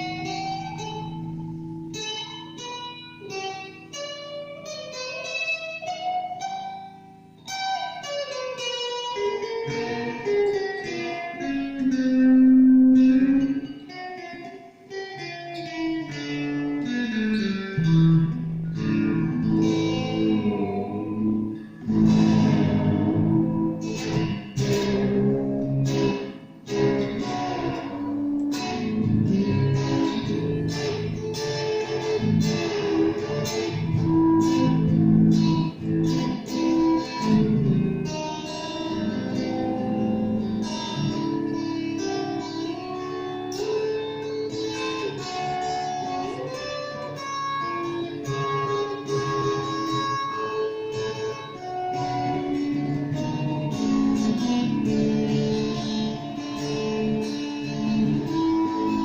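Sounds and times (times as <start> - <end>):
electric guitar single notes and chords: 0.0 - 59.0.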